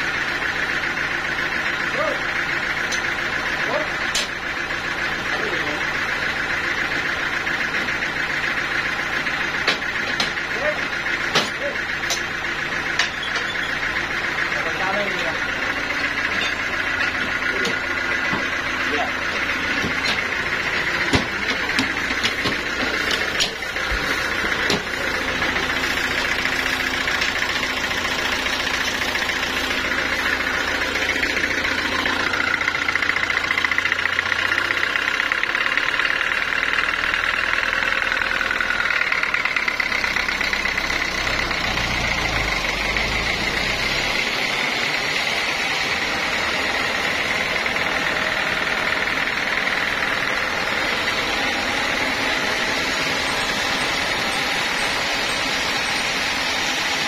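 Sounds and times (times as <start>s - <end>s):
band sawmill drone: 0.0s - 57.0s.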